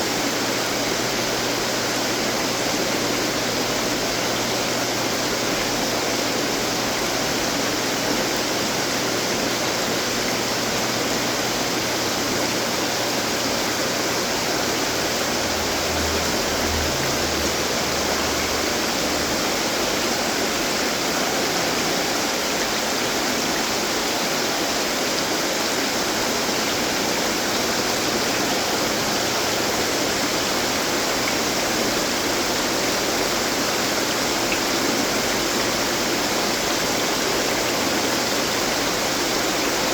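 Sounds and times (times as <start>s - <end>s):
water fountains splashing: 0.0s - 39.9s.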